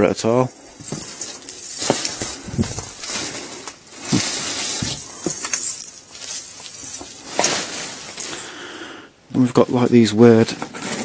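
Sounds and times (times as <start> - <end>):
plastic bag rustling: 0.2 - 8.7, 10.0 - 11.0.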